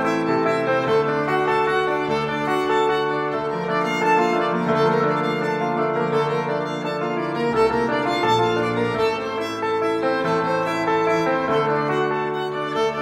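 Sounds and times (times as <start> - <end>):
piano accompaniment: 0.0 - 13.0
violin melody: 0.0 - 13.0.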